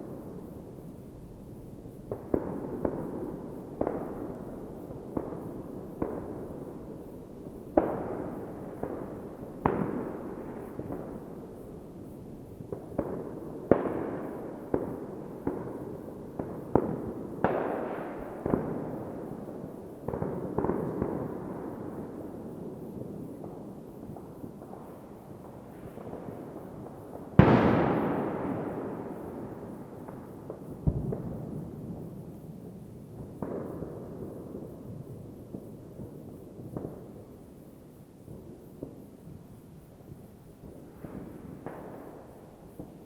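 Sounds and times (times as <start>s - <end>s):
fireworks bangs with echo: 2.1s - 11.4s, 12.6s - 37.3s, 40.6s - 43.0s.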